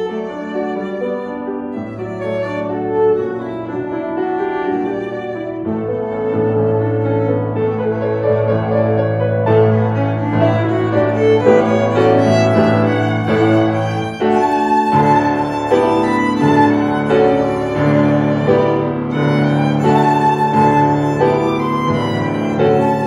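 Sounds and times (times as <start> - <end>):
piano chords: 0.0 - 23.0
violin melody: 0.0 - 23.0.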